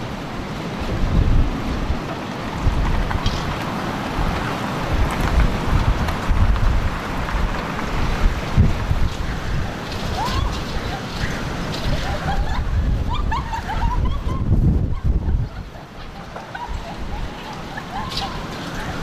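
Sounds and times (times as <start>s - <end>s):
storm wind gusting: 0.0s - 19.0s
wind buffeting microphone: 0.0s - 19.0s.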